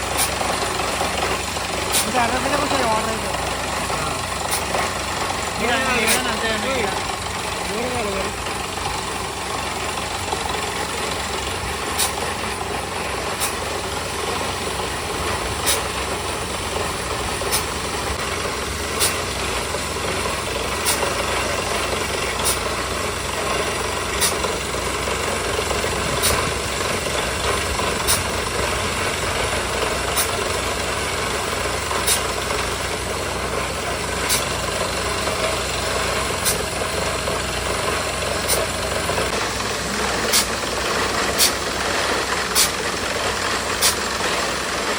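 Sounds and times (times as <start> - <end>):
drilling rig engine running: 0.0 - 44.9.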